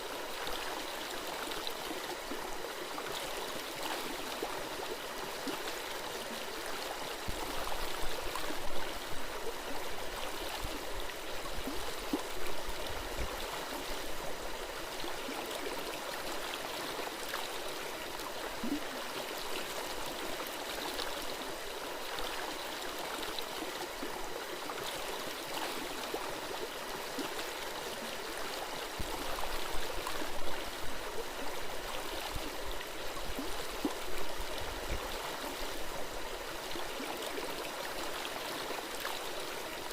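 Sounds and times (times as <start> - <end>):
stream gurgling over rocks: 0.0 - 39.9.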